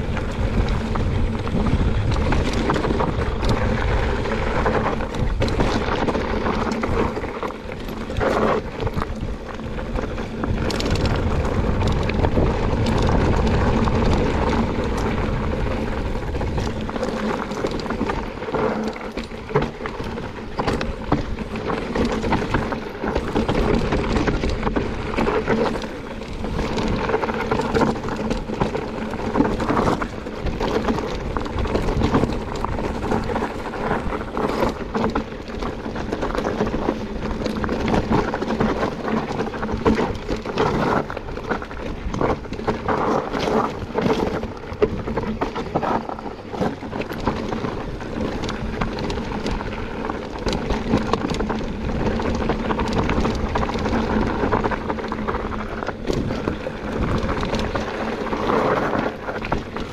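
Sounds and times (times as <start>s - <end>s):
bike rattling: 0.0s - 59.9s
bike tyres rumbling: 0.0s - 59.9s.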